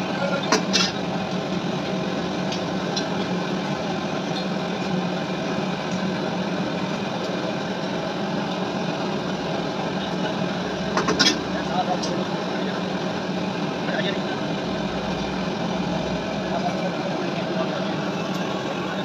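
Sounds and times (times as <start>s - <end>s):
steady engine-like hum: 0.0s - 19.0s.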